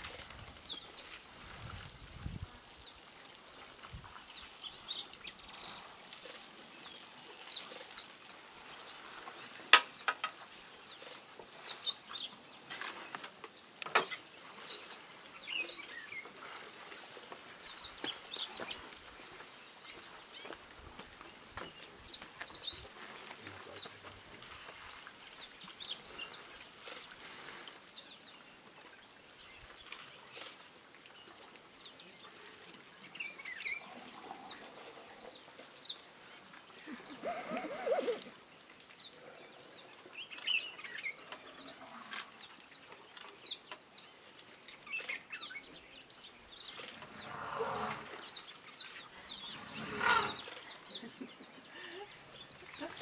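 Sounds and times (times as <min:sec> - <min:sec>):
small birds chirping: 0:04.1 - 0:53.0.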